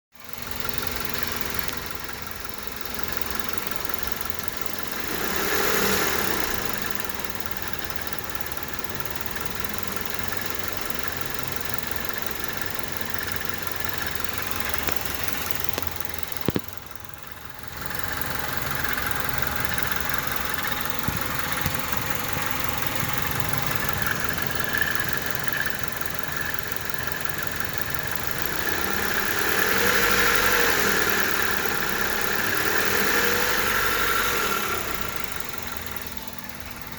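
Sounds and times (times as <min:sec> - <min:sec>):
car engine idling: 0:00.2 - 0:36.9
strange alternator noise: 0:00.3 - 0:36.9.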